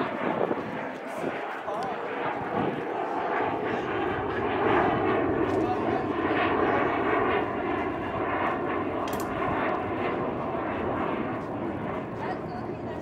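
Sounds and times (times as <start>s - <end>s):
airplane engine overhead: 0.0s - 13.0s.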